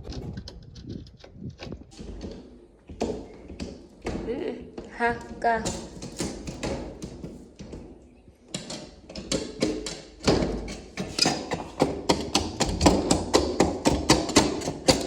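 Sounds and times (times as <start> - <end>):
hard knocks: 0.0 - 15.0.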